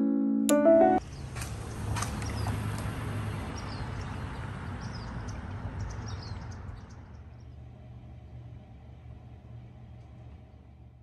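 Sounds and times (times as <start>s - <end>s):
low rumble of traffic: 1.0s - 11.0s.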